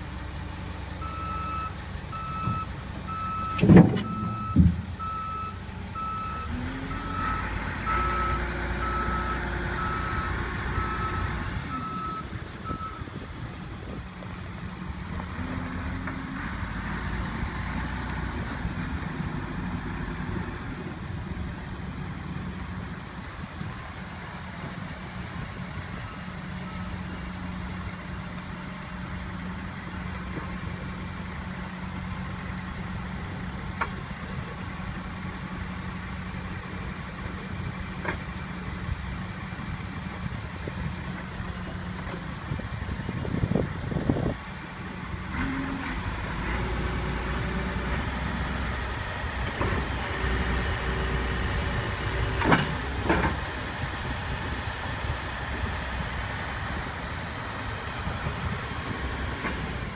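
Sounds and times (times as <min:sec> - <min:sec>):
diesel engine running and revving: 0:00.0 - 0:59.9.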